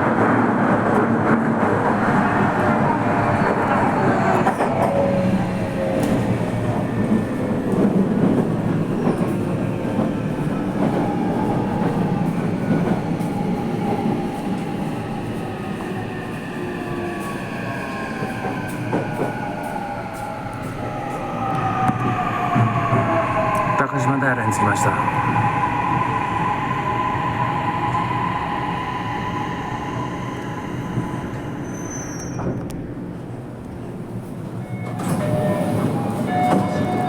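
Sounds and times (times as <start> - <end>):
subway car rumbling: 0.0 - 37.0.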